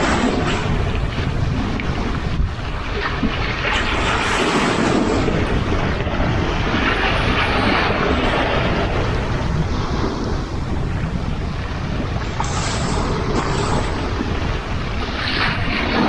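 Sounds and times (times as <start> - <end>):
sea waves washing in: 0.0 - 16.0
wind buffeting the microphone: 0.0 - 16.0.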